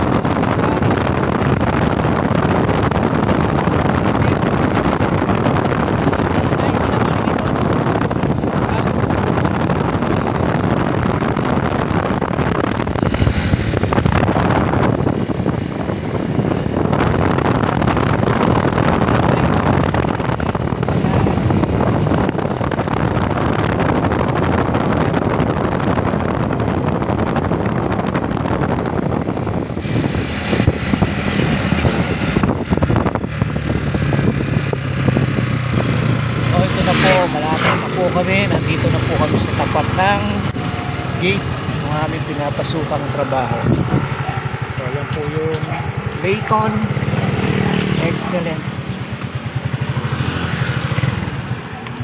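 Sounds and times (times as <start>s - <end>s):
low engine hum: 0.0s - 52.0s
motorcycle road noise: 0.0s - 52.0s
wind rushing over microphone: 0.0s - 52.0s.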